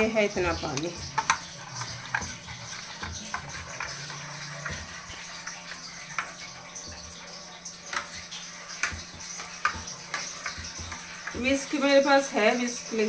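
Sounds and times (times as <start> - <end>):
water rushing into drum: 0.0 - 12.2
spoon stirring batter: 0.0 - 13.0.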